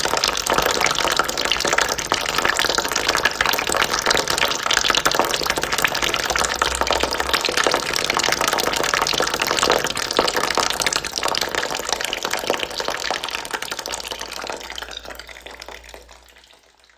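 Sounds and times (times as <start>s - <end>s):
water trickling into a bucket: 0.0s - 16.9s.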